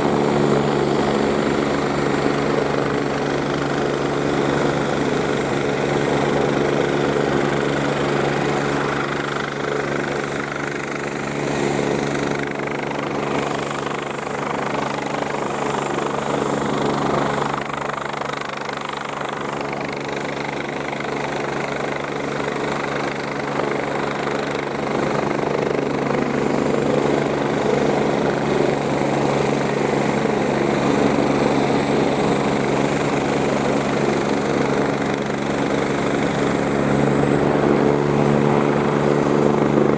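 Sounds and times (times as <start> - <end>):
helicopter rotor beat: 0.0 - 39.9
helicopter turbine hum: 0.0 - 39.9.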